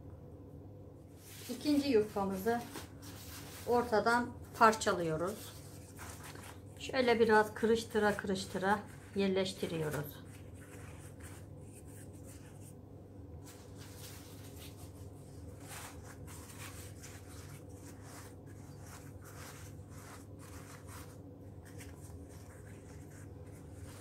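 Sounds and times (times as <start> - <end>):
low steady hum: 0.0 - 24.0
pastry sheets crinkling: 1.2 - 12.8, 13.4 - 24.0.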